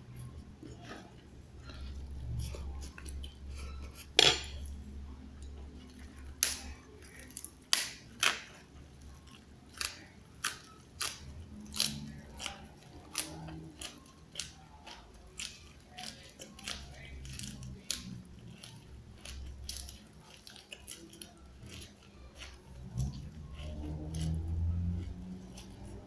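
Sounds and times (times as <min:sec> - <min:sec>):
crunchy chewing of leaves: 0:00.0 - 0:26.0.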